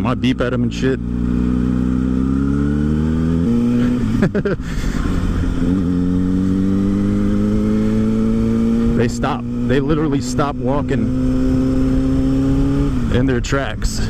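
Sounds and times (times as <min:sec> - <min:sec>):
vehicle engine accelerating: 0:00.0 - 0:14.0.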